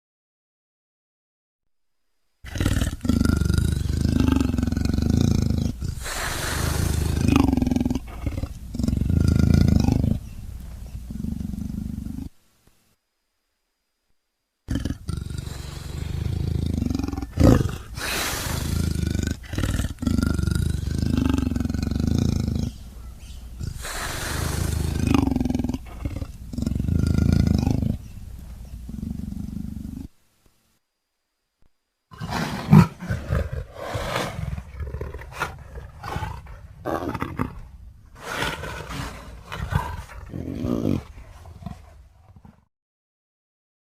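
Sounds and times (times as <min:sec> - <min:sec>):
wolves growling: 0:02.5 - 0:12.4, 0:14.7 - 0:30.1, 0:32.1 - 0:42.7.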